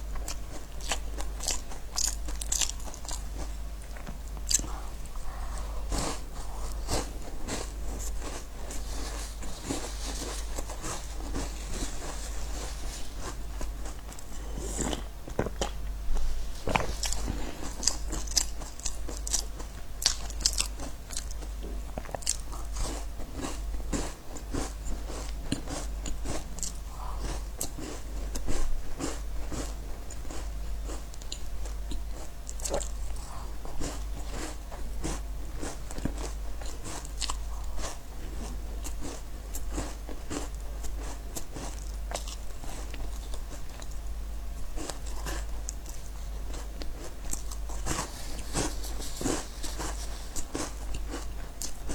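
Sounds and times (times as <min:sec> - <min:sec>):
biscuits crunching while chewed: 0:00.0 - 0:51.9
steady low hum: 0:00.0 - 0:51.9.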